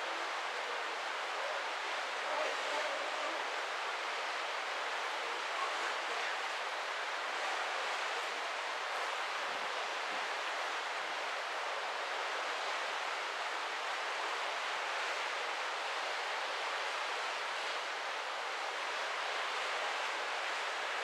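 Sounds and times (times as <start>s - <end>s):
wind and sea water rushing: 0.0s - 21.0s.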